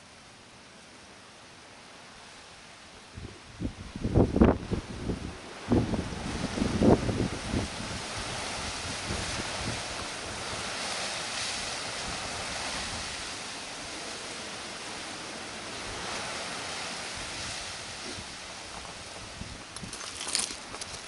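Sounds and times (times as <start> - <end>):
distant surf: 0.0 - 21.0
wind buffeting microphone: 3.0 - 21.0.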